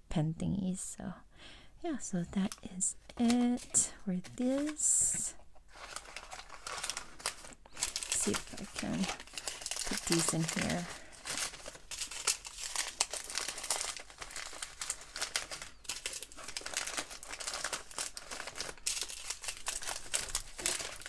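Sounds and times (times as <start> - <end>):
plastic bags crinkling: 3.2 - 21.0.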